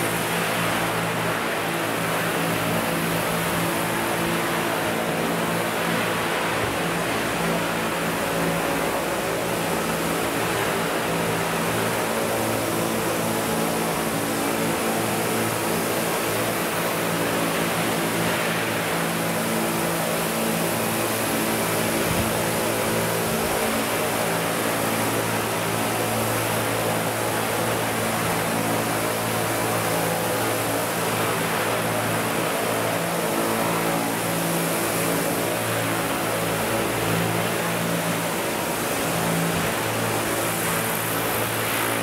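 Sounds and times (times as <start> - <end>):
model helicopter rotors droning: 0.0 - 42.0.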